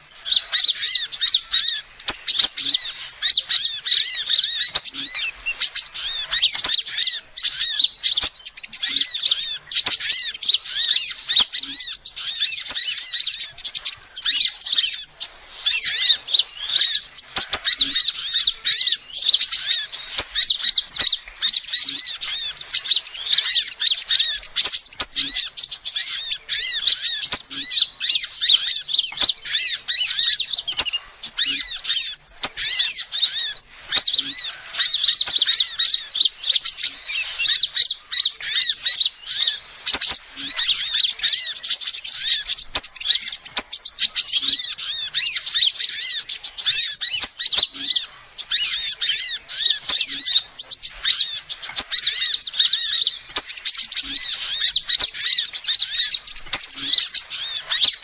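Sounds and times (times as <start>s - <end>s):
sunbird chirping: 0.0s - 58.0s.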